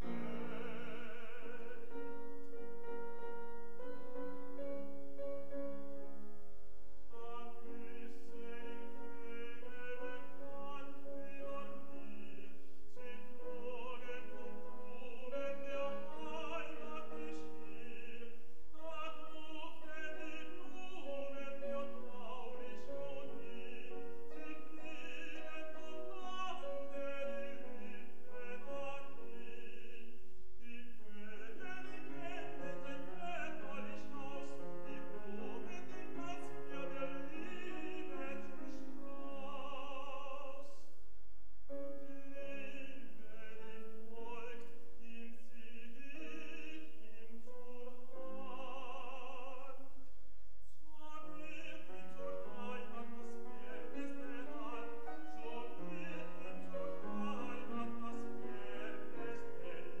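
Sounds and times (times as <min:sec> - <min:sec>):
tenor singing with vibrato: 0:00.0 - 0:06.3, 0:07.1 - 0:41.0, 0:41.7 - 0:50.0, 0:50.6 - 1:00.0
grand piano accompaniment: 0:00.0 - 1:00.0.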